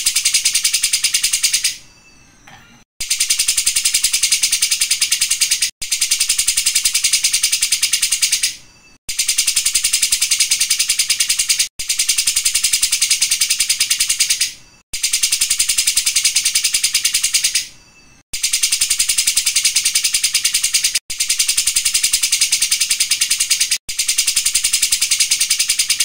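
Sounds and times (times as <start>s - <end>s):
bird singing rattling song: 0.0s - 26.0s.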